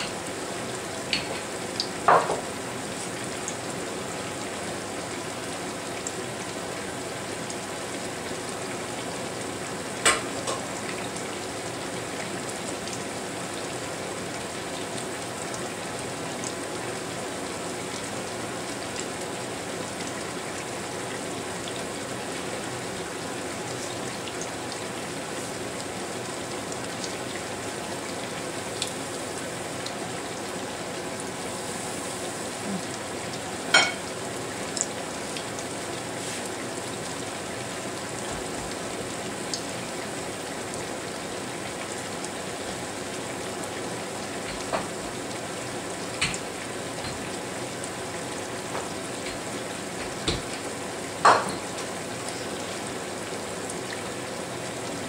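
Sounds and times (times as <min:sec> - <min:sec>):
food sizzling in hot fat: 0:00.0 - 0:55.0.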